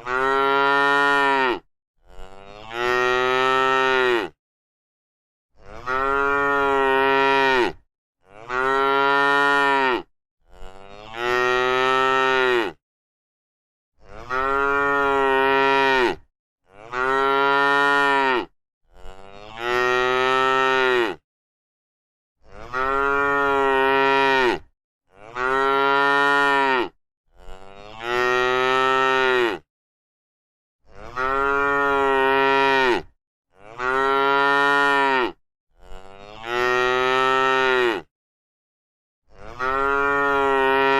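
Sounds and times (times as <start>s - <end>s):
cow mooing: 0.0s - 4.4s, 5.6s - 12.8s, 14.0s - 21.2s, 22.4s - 29.7s, 30.9s - 38.1s, 39.3s - 40.9s.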